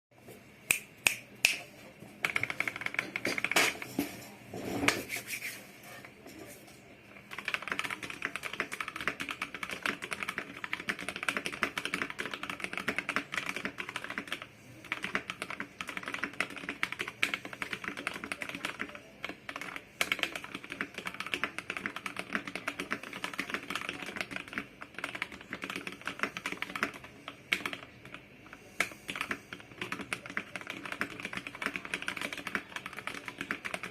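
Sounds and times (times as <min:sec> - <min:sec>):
mechanical keyboard typing: 0:02.2 - 0:03.8, 0:07.2 - 0:33.9.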